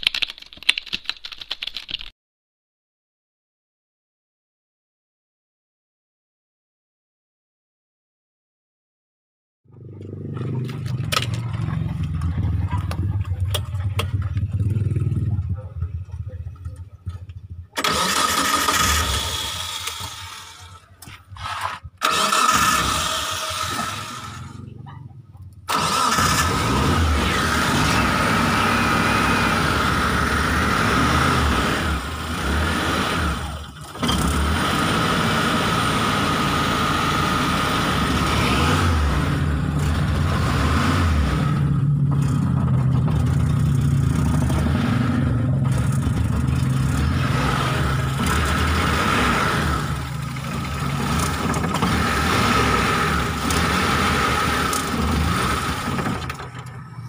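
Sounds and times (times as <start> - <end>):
engine starting and running: 9.7 - 57.0.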